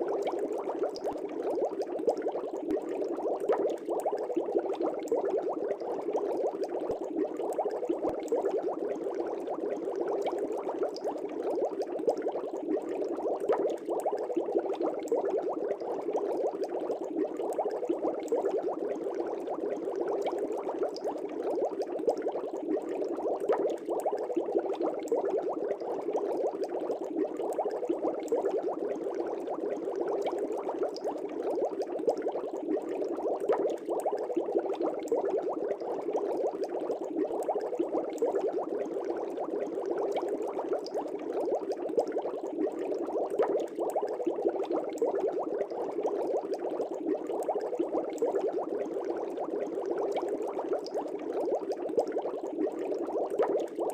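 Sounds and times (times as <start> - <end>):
fish tank air bubbles: 0.0 - 53.9.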